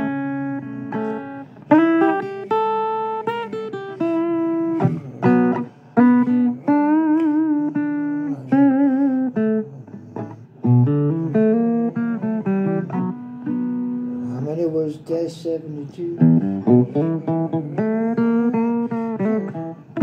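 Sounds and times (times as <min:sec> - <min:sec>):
blues guitar plucked notes: 0:00.0 - 0:20.0.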